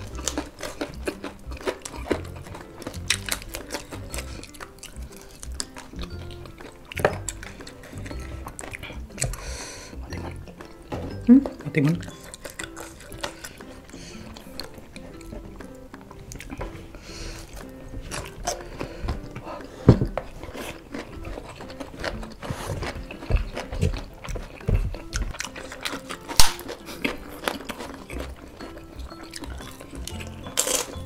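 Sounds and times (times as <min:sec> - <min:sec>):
chewing and crunching food: 0:00.0 - 0:31.0
soft background music: 0:00.0 - 0:31.0.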